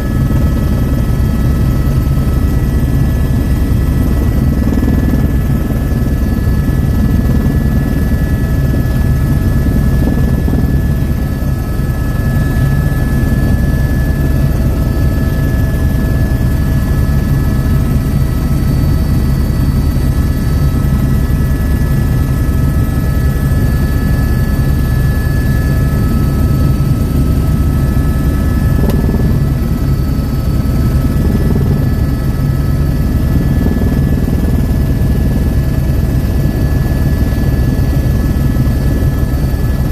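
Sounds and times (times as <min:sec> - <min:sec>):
helicopter rotor beating: 0:00.0 - 0:39.9
turbine whine: 0:00.0 - 0:39.9.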